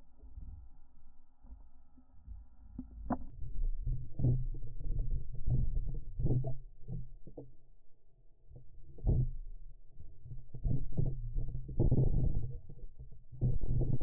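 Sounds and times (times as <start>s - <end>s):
muffled underwater thumps and knocks: 1.4s - 7.8s, 8.5s - 14.0s.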